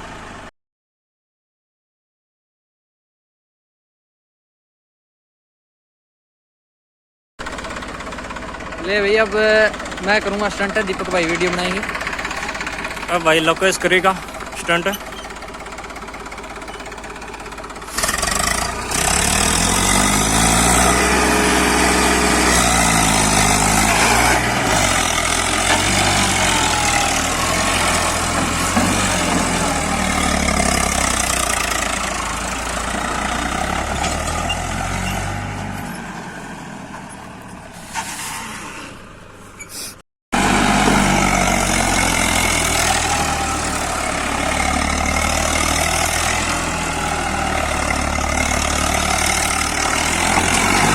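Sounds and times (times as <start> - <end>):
tractor engine revving: 7.4 - 39.4, 40.4 - 50.9.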